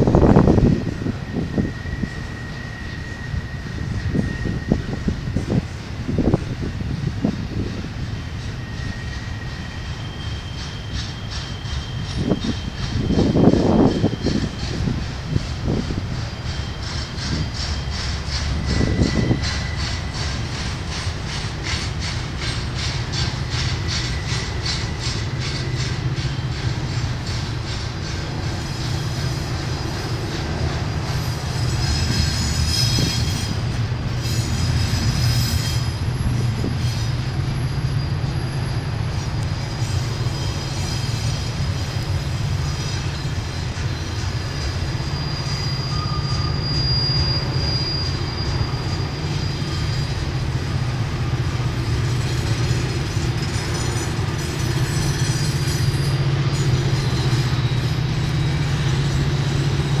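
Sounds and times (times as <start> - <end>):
train wheels rumbling on rail: 0.0 - 60.0
high-pitched wheel squeal: 0.3 - 5.8, 7.3 - 60.0.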